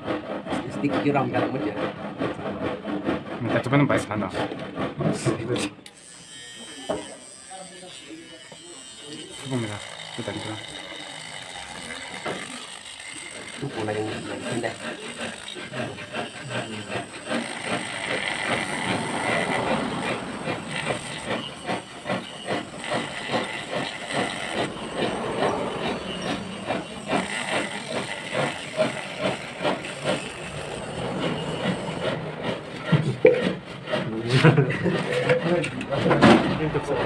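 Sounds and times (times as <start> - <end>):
rotary tool grinding: 4.4 - 37.0.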